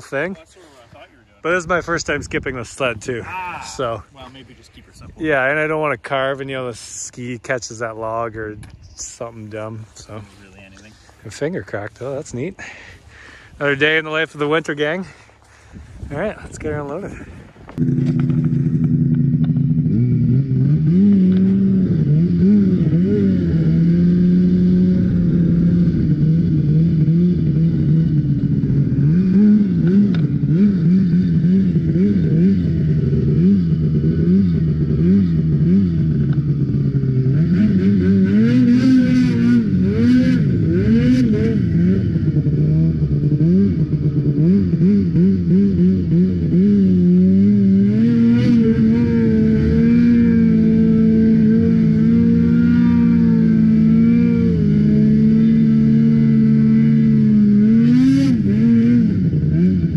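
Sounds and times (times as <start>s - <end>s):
snowmobile engine revving: 1.4s - 59.9s.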